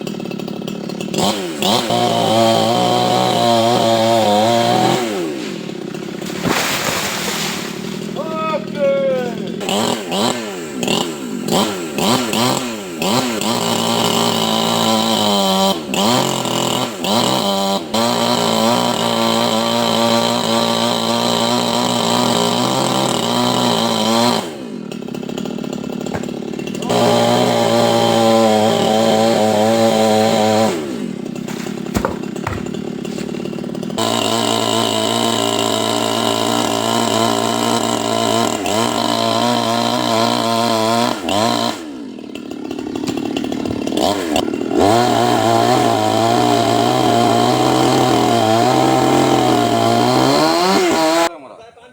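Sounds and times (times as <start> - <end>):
chainsaw cutting wood: 0.0 - 51.4.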